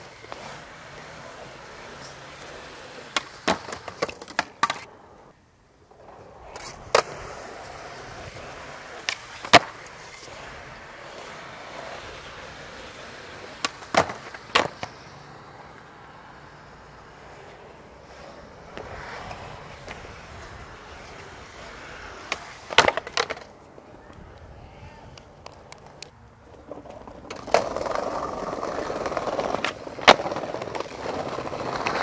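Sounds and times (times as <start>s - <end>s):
skateboard clacks: 0.0s - 5.2s, 5.9s - 32.0s
skateboard wheels rolling on concrete: 0.0s - 32.0s.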